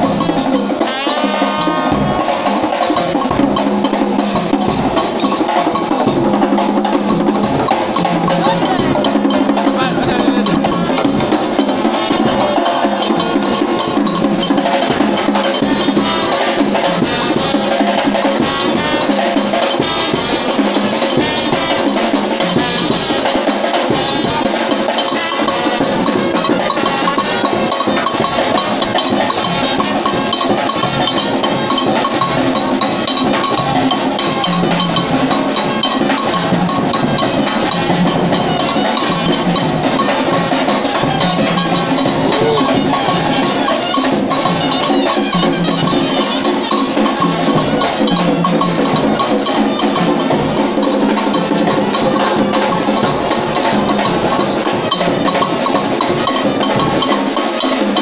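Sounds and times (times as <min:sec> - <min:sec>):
brass band playing: 0:00.0 - 0:58.0
drums and percussion: 0:00.0 - 0:58.0.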